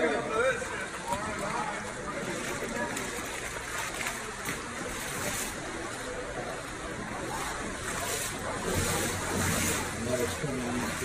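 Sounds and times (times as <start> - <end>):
water splashing swishes: 0.8 - 11.0
floodwater sloshing on tiled floor: 1.1 - 6.5, 7.2 - 11.0.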